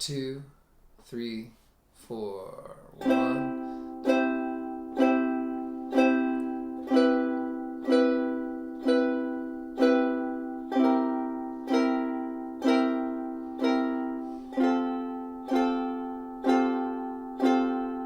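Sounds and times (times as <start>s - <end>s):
ukulele chords strummed slowly: 3.0s - 18.0s.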